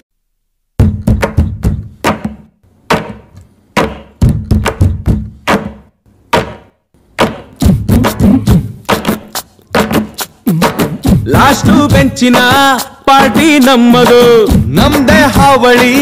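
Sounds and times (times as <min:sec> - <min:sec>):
drum strikes in uneven rhythm: 0:00.8 - 0:16.0.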